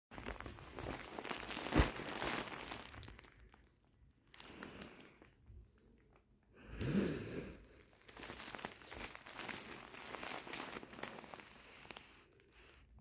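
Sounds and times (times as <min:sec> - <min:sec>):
plastic wrapping crinkling: 0:00.1 - 0:06.2, 0:07.5 - 0:13.0.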